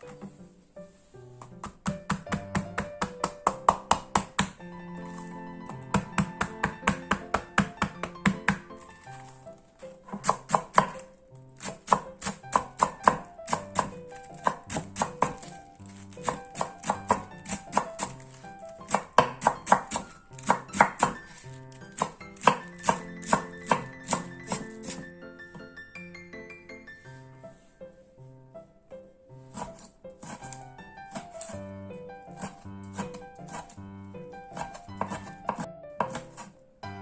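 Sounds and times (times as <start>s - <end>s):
knife chopping on cutting board: 1.4s - 25.6s, 29.5s - 31.6s, 32.3s - 33.8s, 34.6s - 36.6s.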